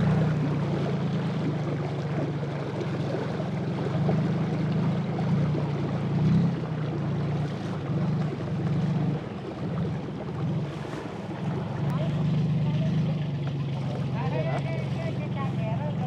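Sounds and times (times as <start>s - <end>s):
boat engine droning: 0.0s - 16.0s
wind and water rushing: 0.0s - 16.0s.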